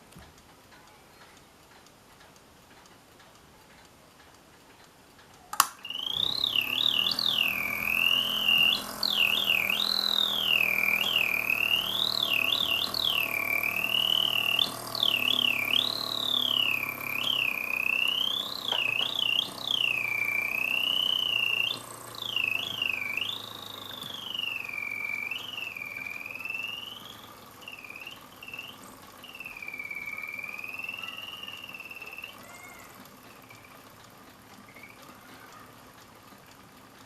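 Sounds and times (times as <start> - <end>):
birdsong alarm clock whistling: 5.8 - 35.8.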